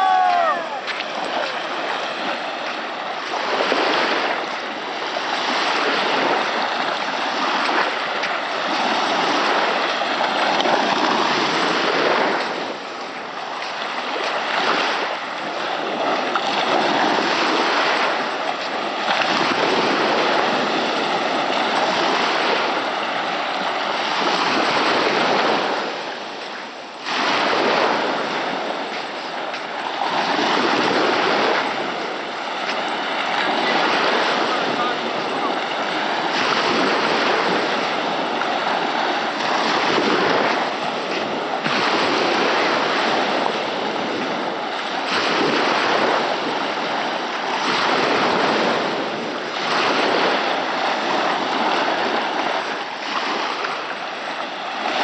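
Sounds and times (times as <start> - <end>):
waves washing up beach: 0.0 - 55.0.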